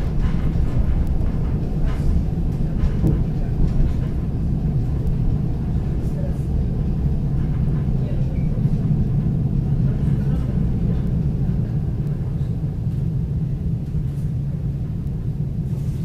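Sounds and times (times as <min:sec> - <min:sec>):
train rumble inside coach: 0:00.0 - 0:16.0.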